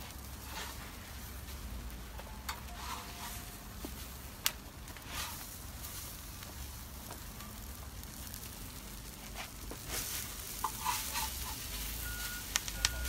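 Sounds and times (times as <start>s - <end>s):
hash browns sizzling: 0.0s - 13.0s.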